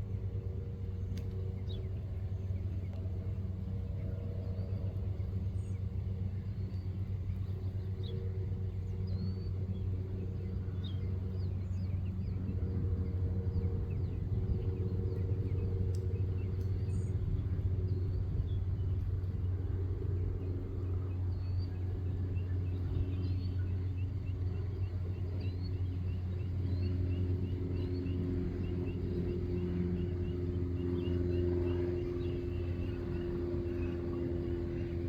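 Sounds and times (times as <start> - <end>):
low engine rumble: 0.0 - 35.0.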